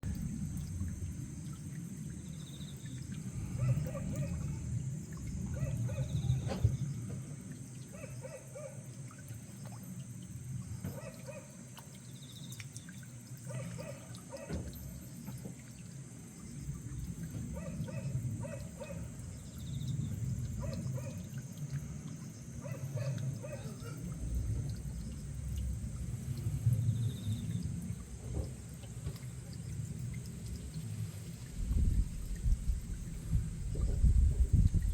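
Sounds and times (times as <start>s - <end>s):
frogs croaking: 0.0s - 34.9s
water trickling: 0.0s - 34.9s.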